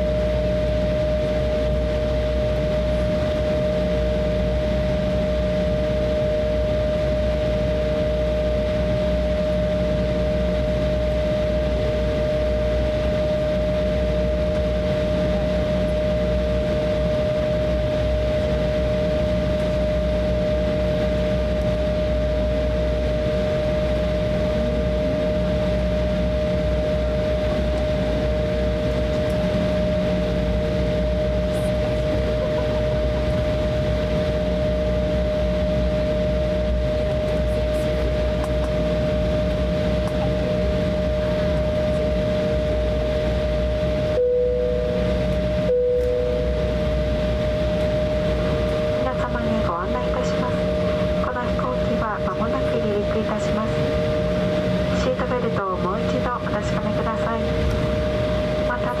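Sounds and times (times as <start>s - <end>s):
airplane cabin hum and air rush: 0.0s - 59.0s
jet engine whine: 0.0s - 59.0s.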